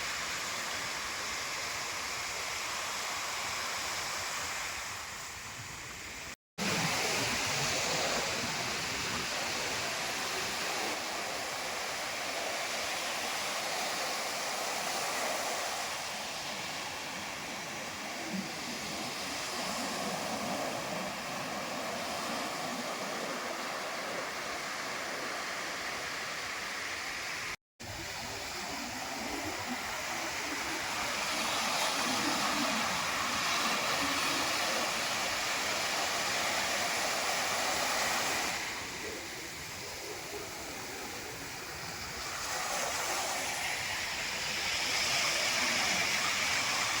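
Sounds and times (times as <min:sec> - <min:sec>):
sea surf washing on shore: 0:00.0 - 0:47.0.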